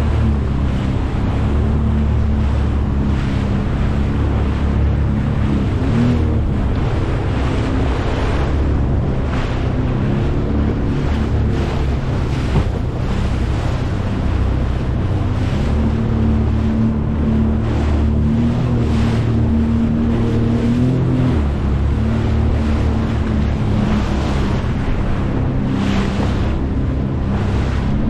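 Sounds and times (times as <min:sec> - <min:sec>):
boat engine running: 0:00.0 - 0:28.0
water rushing past: 0:00.0 - 0:28.0
wind buffeting microphone: 0:00.0 - 0:28.0.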